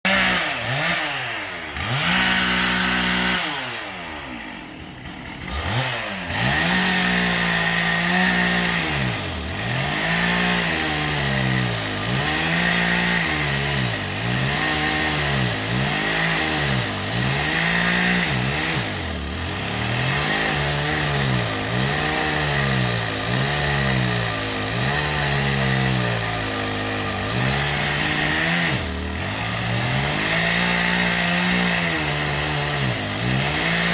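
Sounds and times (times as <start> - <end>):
chainsaw engine revving: 0.0 - 33.9.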